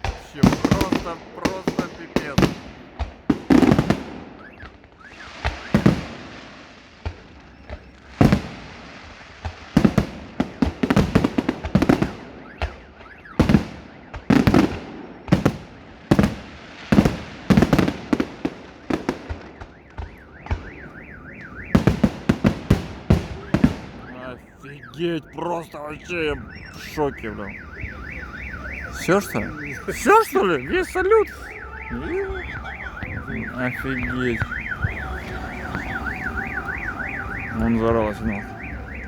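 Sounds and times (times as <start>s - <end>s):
fireworks bursting: 0.0s - 39.0s
fireworks crackling: 0.0s - 39.0s.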